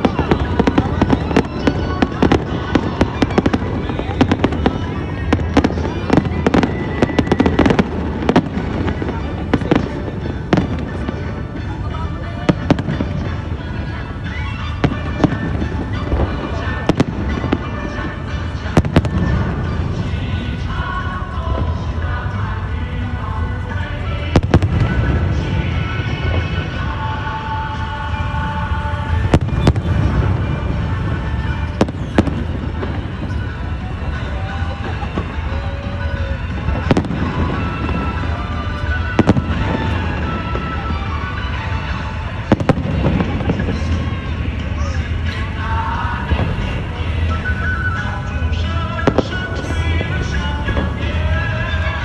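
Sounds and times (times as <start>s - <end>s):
fireworks bursting: 0.0s - 52.0s.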